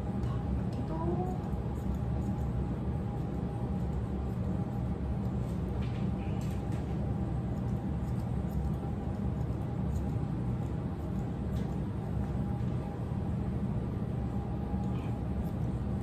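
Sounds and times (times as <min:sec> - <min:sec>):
steady low hum: 0:00.0 - 0:16.0
scissors snipping hair: 0:00.2 - 0:12.6, 0:14.8 - 0:16.0.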